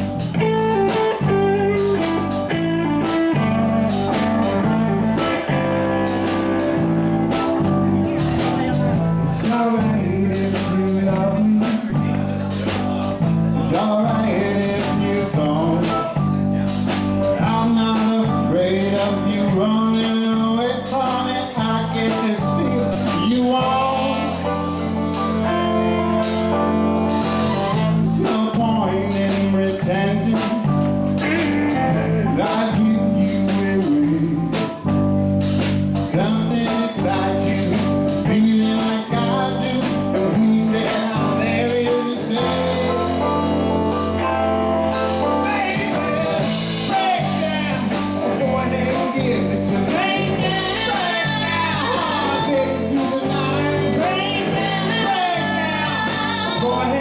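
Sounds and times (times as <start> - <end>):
man singing: 0.0 - 35.0, 35.9 - 57.0
bass guitar: 0.0 - 57.0
drum kit: 0.0 - 57.0
electric guitar: 0.0 - 57.0.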